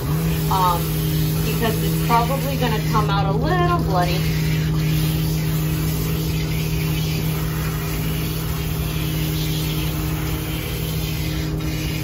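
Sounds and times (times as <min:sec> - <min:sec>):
low motor hum: 0:00.0 - 0:12.0
water spray hissing: 0:00.0 - 0:12.0.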